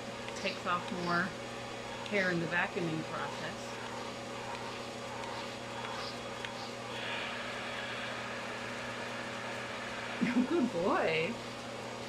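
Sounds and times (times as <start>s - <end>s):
pet grooming vacuum running: 0.0s - 12.0s.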